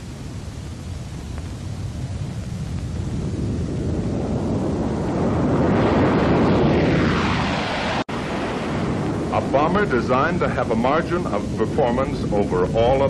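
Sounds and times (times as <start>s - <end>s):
jet bomber flying past: 0.0s - 13.0s.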